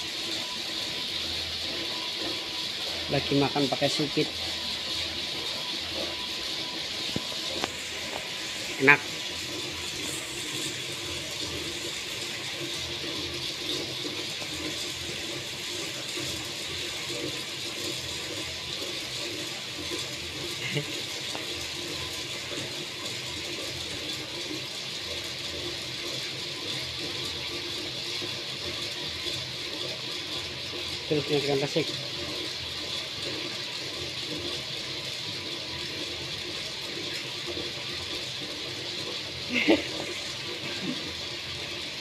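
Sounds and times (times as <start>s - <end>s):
popcorn machine hissing: 0.0s - 42.0s.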